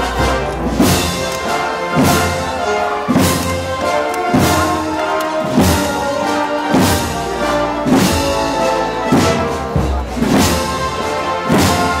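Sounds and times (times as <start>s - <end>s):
brass band playing march: 0.0s - 12.0s
drum beat: 0.0s - 12.0s.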